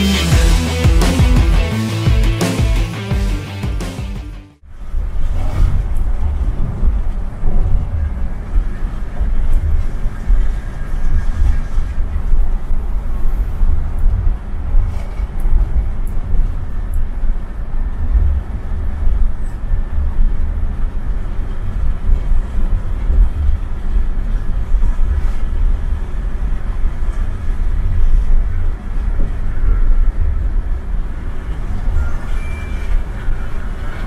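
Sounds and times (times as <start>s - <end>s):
bus engine and tyre rumble: 4.6s - 34.0s.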